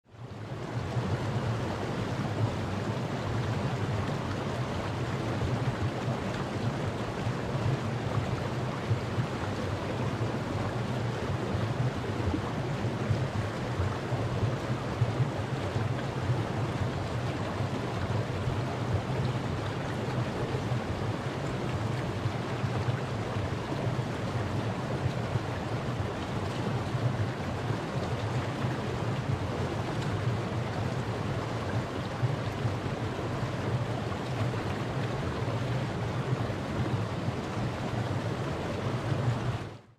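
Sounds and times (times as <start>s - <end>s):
stream rushing over rocks: 0.2s - 39.9s.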